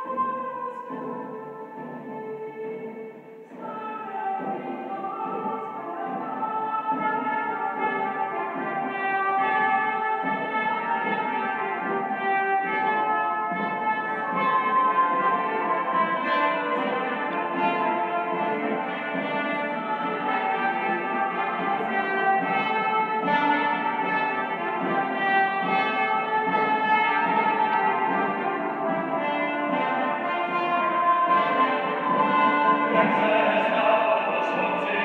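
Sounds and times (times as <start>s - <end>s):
medieval-style ensemble music: 0.0s - 35.0s.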